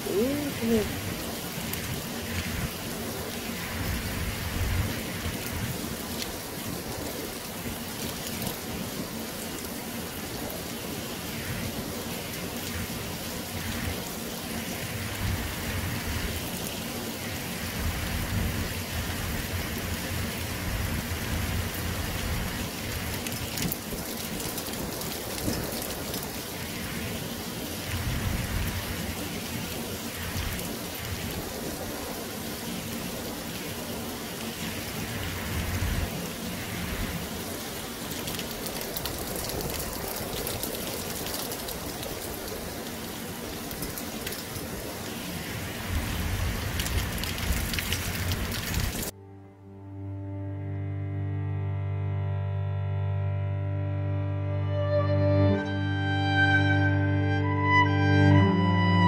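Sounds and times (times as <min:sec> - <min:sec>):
heavy rain pouring: 0:00.0 - 0:49.2.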